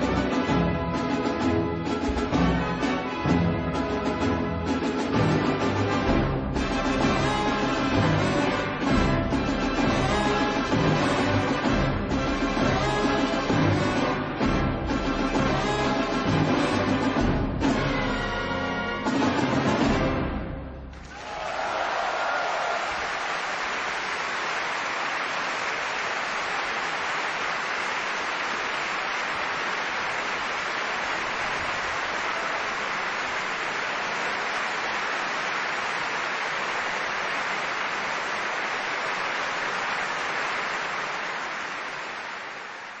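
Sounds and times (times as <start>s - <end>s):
audience applauding: 0.0s - 20.1s, 20.9s - 43.0s.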